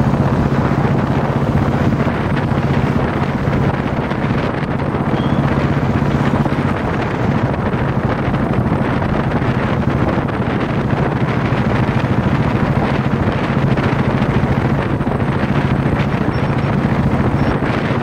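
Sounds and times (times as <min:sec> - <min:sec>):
motorcycle engine cruising: 0:00.0 - 0:18.0
wind rushing over microphone: 0:00.0 - 0:18.0.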